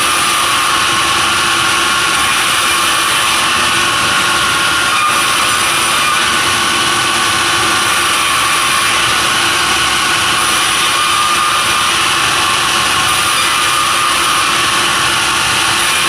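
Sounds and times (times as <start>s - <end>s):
sawmill machinery whining: 0.0s - 16.0s.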